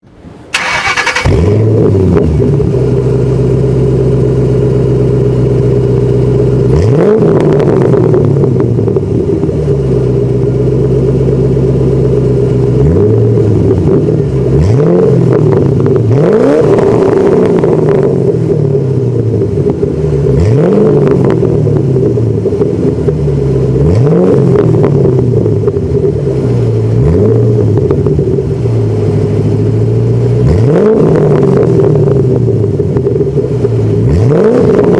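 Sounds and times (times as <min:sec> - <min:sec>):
car engine idling and revving: 0:00.0 - 0:34.9
car engine starting: 0:00.1 - 0:34.9.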